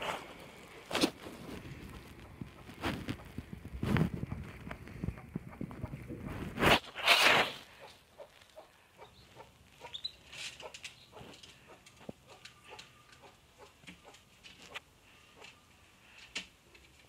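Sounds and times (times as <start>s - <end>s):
chickens scratching: 0.0s - 14.8s
chickens clucking: 0.0s - 17.0s.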